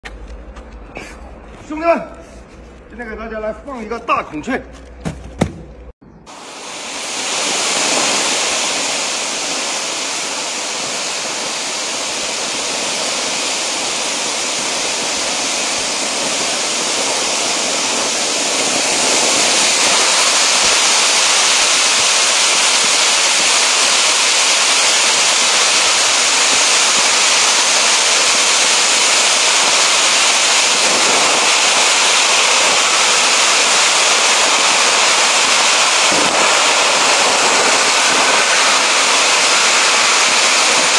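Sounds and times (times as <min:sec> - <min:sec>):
firework fountain hissing: 0:06.3 - 0:40.9.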